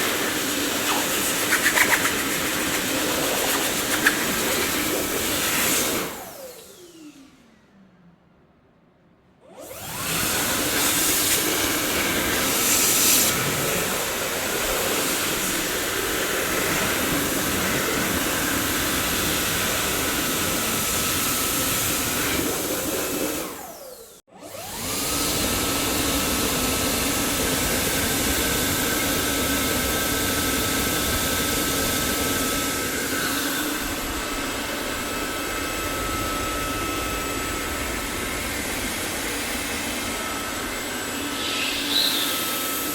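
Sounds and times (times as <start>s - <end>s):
vacuum cleaner running: 0.0s - 7.7s, 9.4s - 42.9s.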